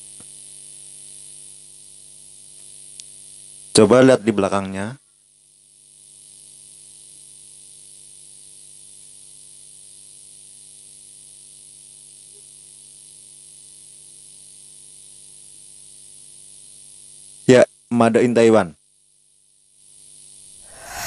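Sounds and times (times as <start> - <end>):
electrical mains hum with hiss: 0.0 - 19.8.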